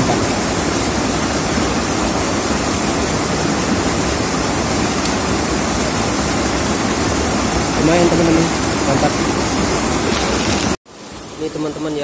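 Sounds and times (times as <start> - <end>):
fast-flowing river water: 0.0 - 12.0.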